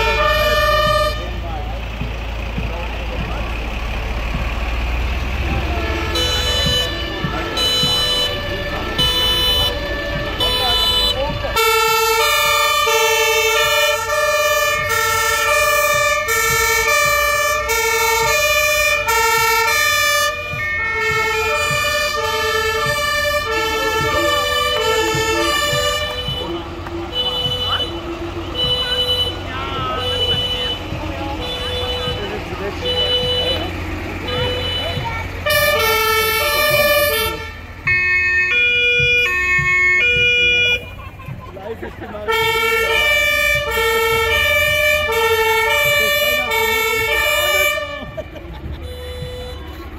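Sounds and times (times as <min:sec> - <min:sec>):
dense horn chord: 0:00.0 - 0:40.9, 0:41.9 - 0:49.8
two-tone fire engine sirens: 0:00.0 - 0:49.9.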